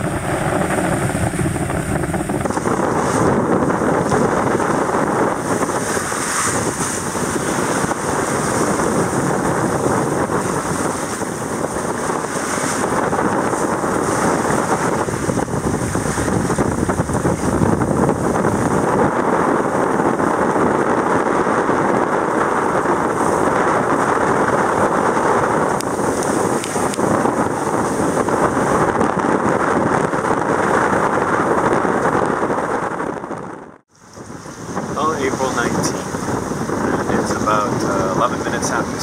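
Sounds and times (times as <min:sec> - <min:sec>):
wind and water rushing: 0:00.0 - 0:39.0.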